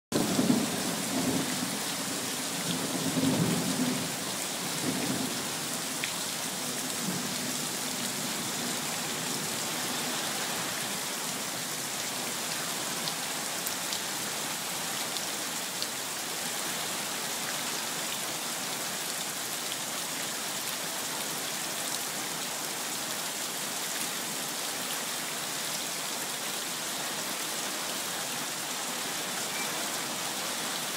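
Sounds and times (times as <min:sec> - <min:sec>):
heavy rain falling: 0:00.1 - 0:30.9.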